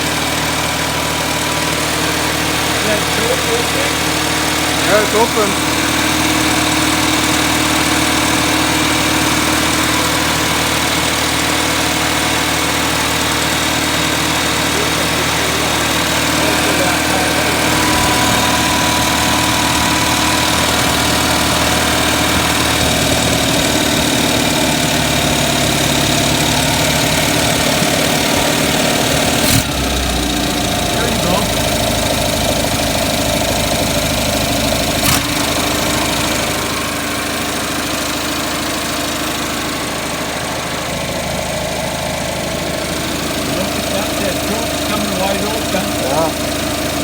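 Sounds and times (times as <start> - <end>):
car engine idling with misfire: 0.0 - 47.0.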